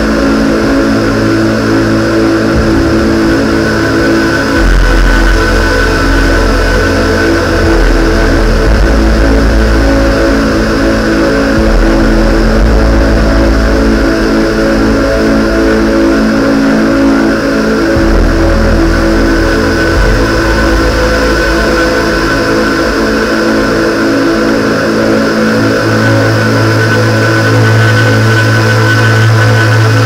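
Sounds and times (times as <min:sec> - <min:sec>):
electronic synthesizer music: 0:00.0 - 0:30.0.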